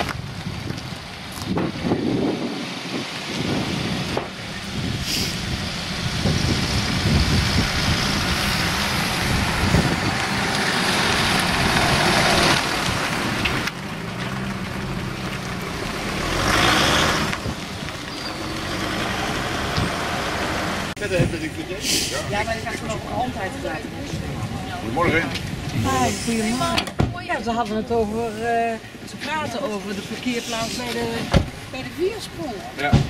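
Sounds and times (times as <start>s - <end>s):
cars driving past slowly: 0.0s - 32.9s.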